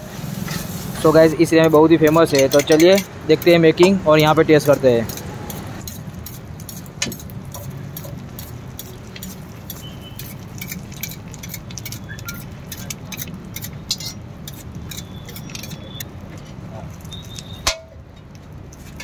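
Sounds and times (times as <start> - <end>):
oil crackling on griddle: 0.0 - 19.0
spoon scraping griddle: 0.3 - 17.7.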